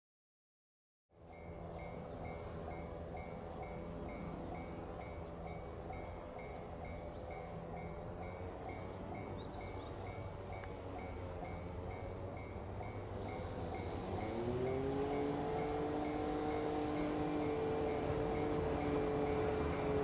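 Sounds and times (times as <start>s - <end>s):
level-crossing warning bell ringing: 1.2s - 20.0s.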